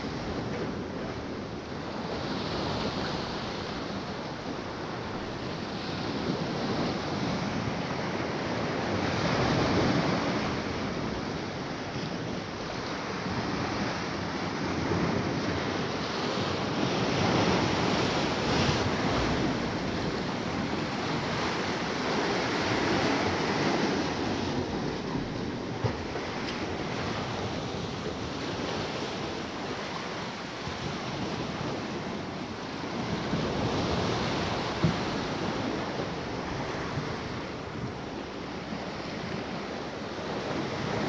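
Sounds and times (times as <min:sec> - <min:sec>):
waves breaking on rocky shore: 0:00.0 - 0:41.0.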